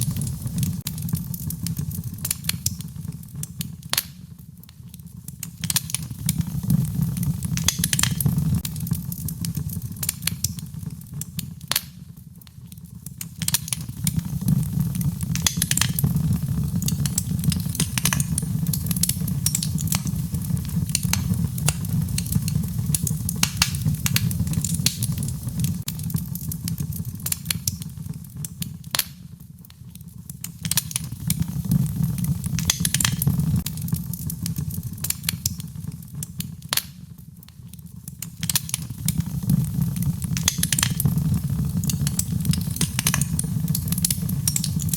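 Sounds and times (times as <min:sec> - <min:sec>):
burning wood crackling and popping: 0:00.0 - 0:44.9
flames rumbling: 0:00.0 - 0:44.9.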